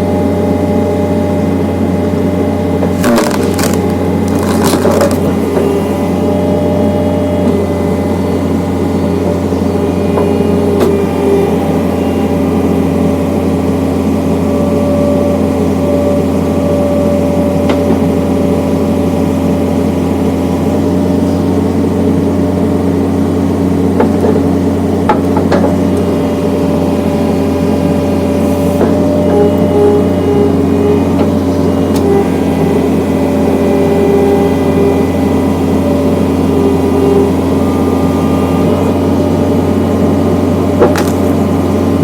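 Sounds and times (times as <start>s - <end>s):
skid steer engine running: 0.0s - 42.0s.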